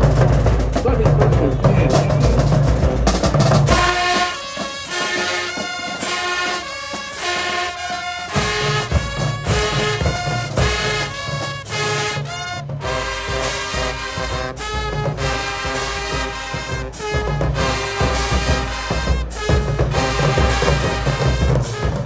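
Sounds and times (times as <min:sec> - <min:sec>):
heavy drums: 0:00.0 - 0:22.0
horns playing held chords: 0:00.0 - 0:22.0
low brass: 0:00.0 - 0:22.0.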